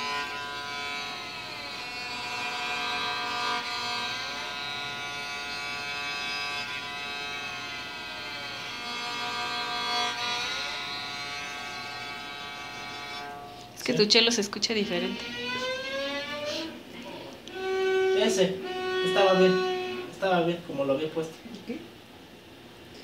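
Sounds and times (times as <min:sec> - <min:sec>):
electric cello bowed notes: 0:00.0 - 0:21.2.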